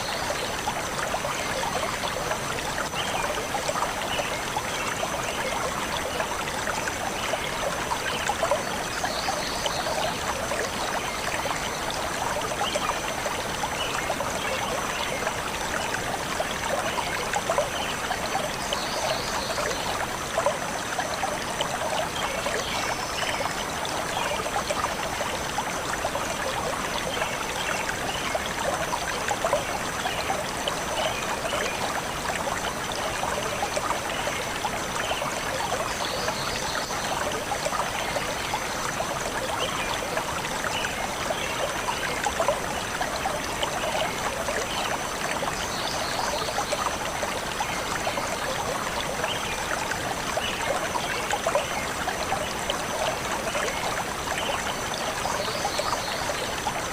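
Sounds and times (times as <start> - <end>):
forest stream flowing: 0.0 - 56.9.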